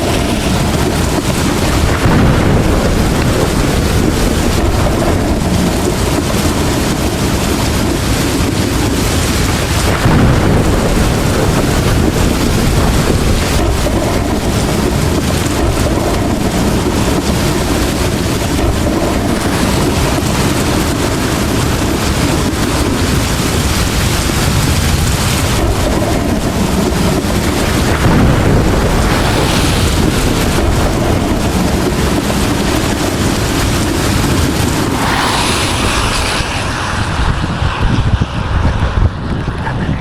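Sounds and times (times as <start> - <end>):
hiss of wet road: 0.0 - 38.0
heavy rain: 0.0 - 40.0
wind rumbling on microphone: 0.0 - 40.0.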